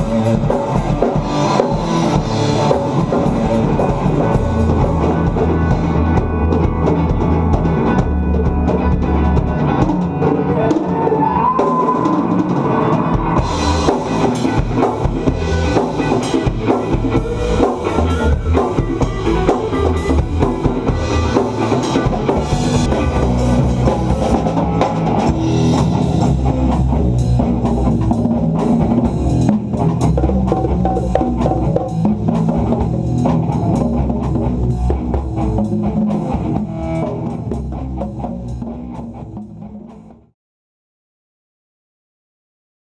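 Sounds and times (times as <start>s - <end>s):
live rock band: 0.0s - 40.3s.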